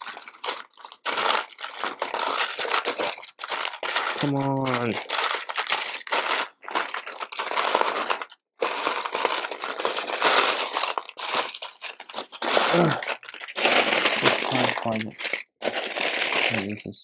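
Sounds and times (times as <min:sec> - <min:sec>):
plastic bricks clattering: 0:00.0 - 0:16.8.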